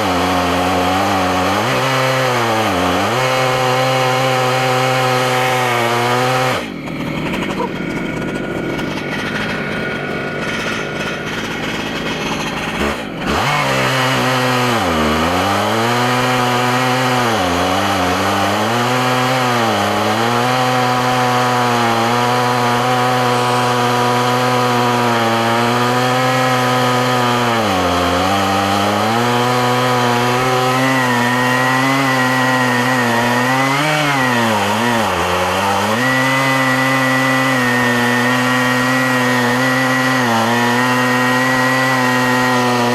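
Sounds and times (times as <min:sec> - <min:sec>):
chainsaw ripping through log: 0:00.0 - 0:42.9.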